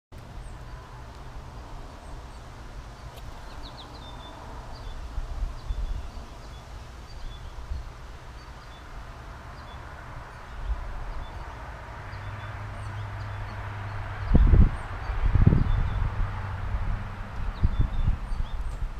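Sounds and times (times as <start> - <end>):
wind rumble on microphone: 0.2 - 18.9.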